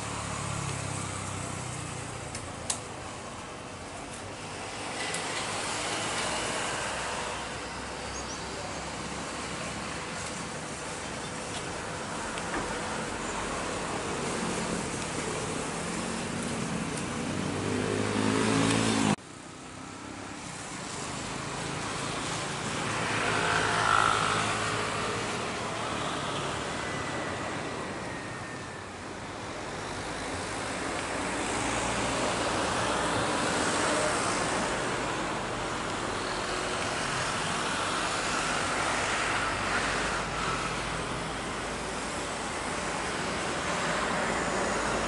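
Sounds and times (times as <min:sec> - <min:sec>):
faint engine whine: 0:00.0 - 0:45.0.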